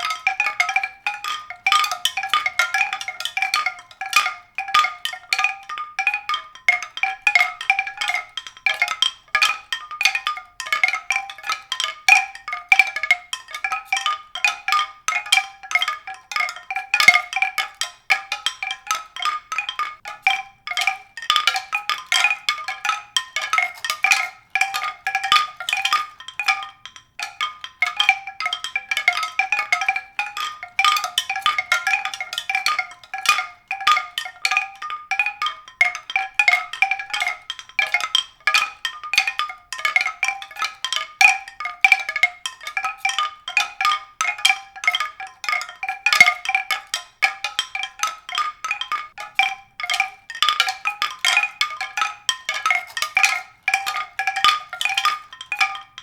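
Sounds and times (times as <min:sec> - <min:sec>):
rapid tinkling struck notes: 0:00.0 - 0:56.0.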